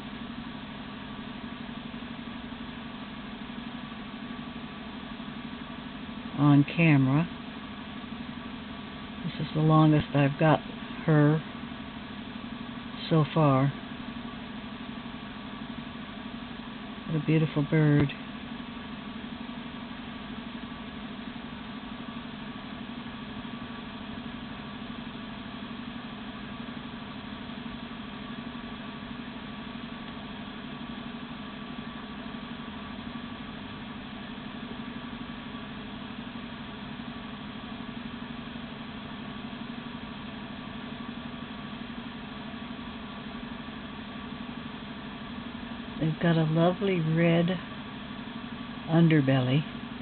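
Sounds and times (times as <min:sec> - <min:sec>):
motor humming: 0:00.0 - 0:50.0.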